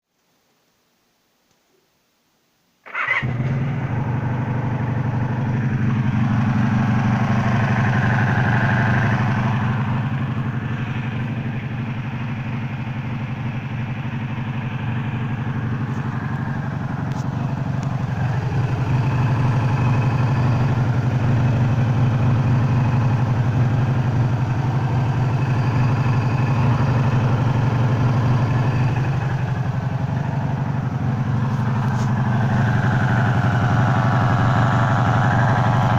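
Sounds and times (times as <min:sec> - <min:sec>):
engine buzzing: 0:02.9 - 0:35.9
motorcycle engine idling: 0:02.9 - 0:35.9.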